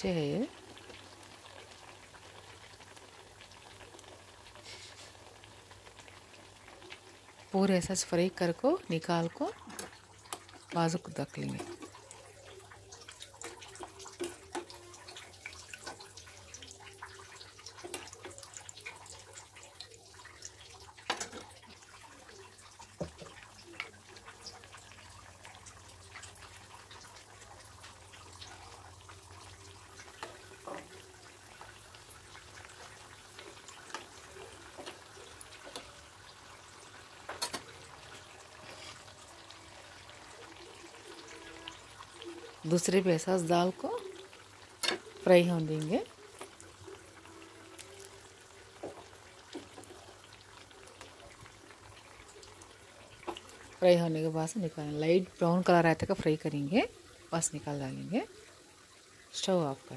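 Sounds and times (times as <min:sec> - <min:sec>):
biscuits sizzling in hot oil: 0:00.0 - 0:59.9.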